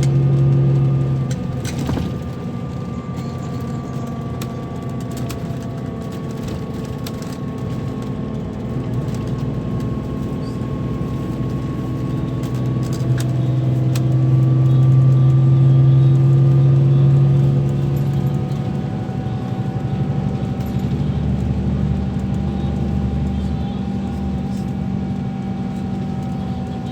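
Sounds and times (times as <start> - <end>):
coach engine running: 0.0 - 26.9.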